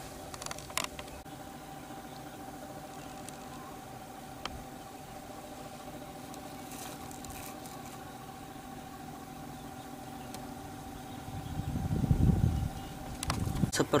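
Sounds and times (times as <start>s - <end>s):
faint constant tone: 0.0s - 14.0s
steady low hum: 0.0s - 14.0s.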